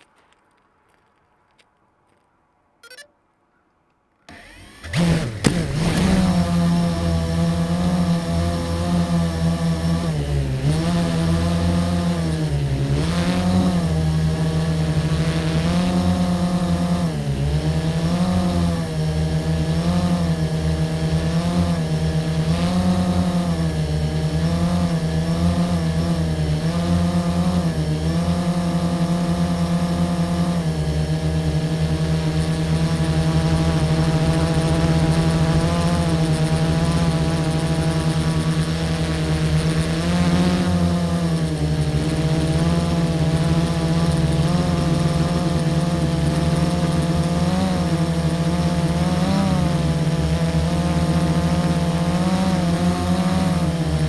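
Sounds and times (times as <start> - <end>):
engine running: 4.3 - 54.0.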